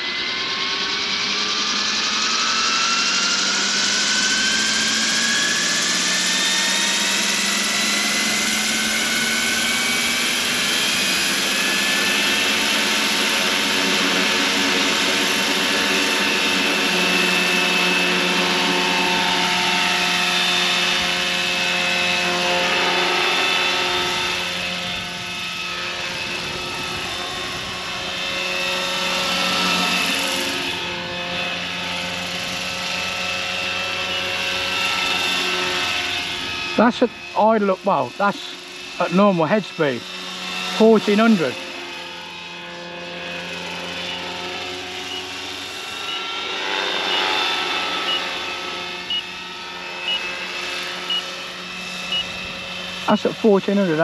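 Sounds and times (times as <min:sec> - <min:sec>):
model helicopter rotor whine: 0:00.0 - 0:54.0.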